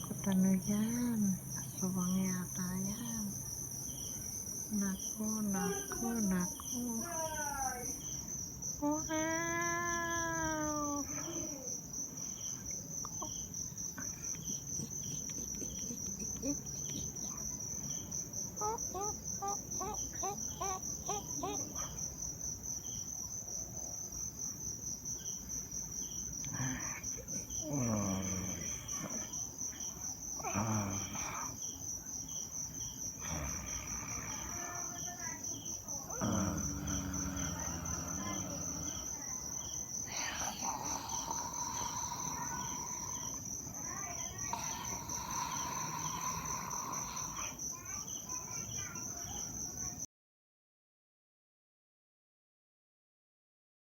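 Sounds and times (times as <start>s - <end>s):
cricket chirping: 0.0s - 50.1s.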